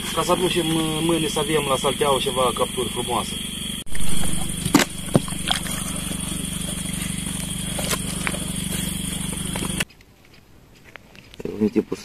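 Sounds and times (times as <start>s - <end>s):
motor humming: 0.0s - 9.9s.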